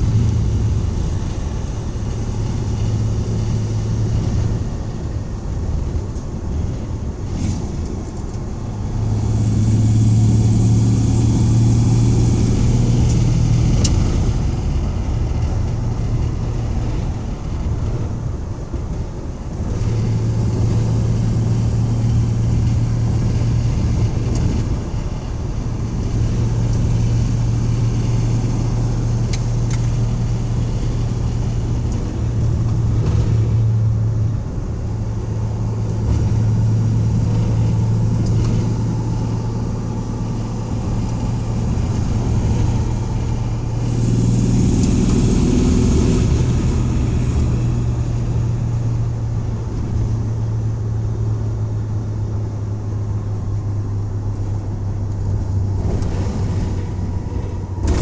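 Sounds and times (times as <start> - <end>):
van engine and road noise: 0.0 - 58.0.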